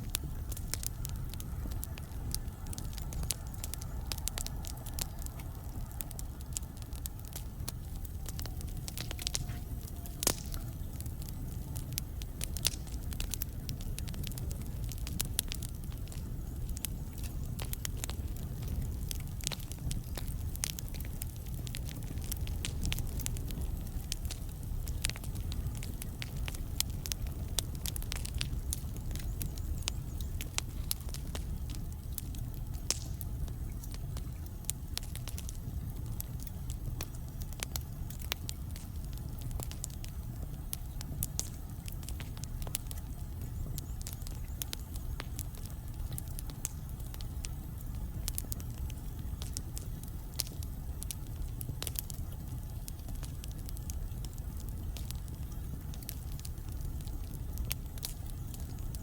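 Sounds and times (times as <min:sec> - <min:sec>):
crackles and pops of burning logs: 0:00.0 - 0:59.0
low rumble of flame: 0:00.0 - 0:59.0.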